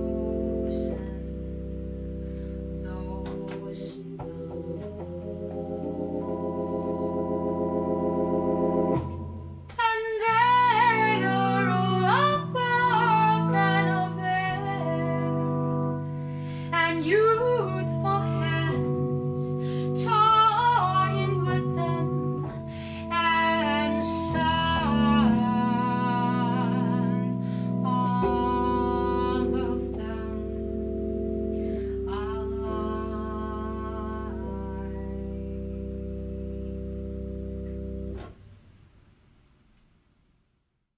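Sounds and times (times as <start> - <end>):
woman singing with vibrato: 0.0 - 1.5, 2.8 - 8.1, 9.0 - 31.0, 31.6 - 35.8
organ sustained chords: 0.0 - 38.4.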